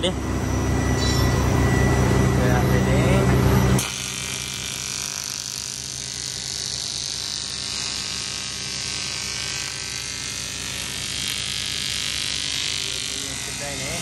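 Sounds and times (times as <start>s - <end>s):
arc welding buzzing hum: 0.0s - 14.0s.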